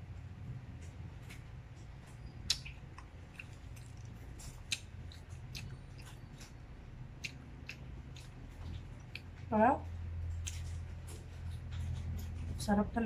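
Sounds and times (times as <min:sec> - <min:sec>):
low steady hum: 0:00.0 - 0:13.0
wet chewing clicks and smacks: 0:00.7 - 0:09.5, 0:10.2 - 0:12.7.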